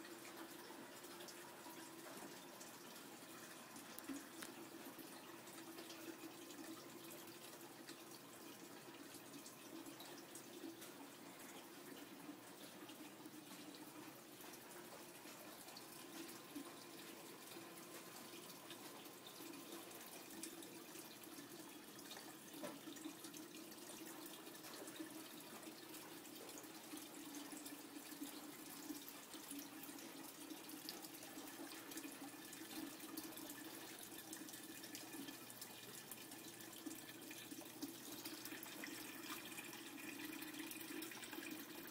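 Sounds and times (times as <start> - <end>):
fountain water trickling and splashing: 0.0 - 41.9.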